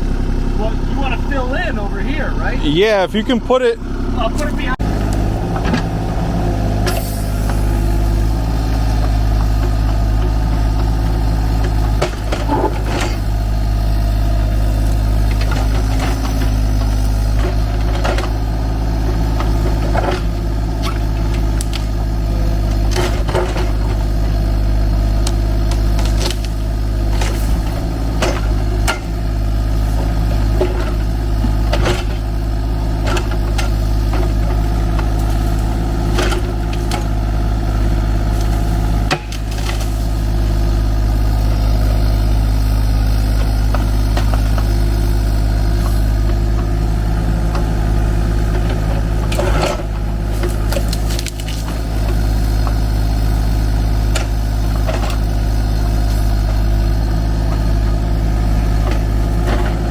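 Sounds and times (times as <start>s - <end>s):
excavator diesel engine running: 0.0s - 59.9s
knocks and scrapes of machinery: 4.3s - 13.8s, 14.9s - 37.3s, 38.0s - 46.7s, 47.5s - 53.1s, 53.7s - 58.0s.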